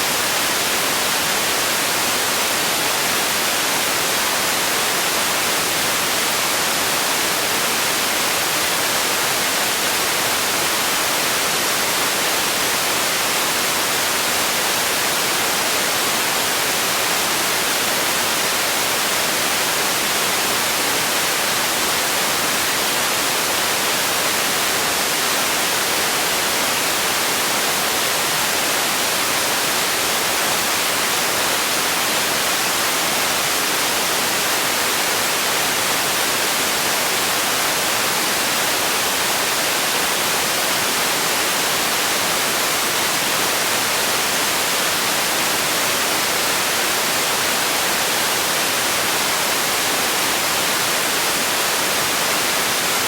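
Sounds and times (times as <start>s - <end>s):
synthetic white noise hiss: 0.0s - 53.0s.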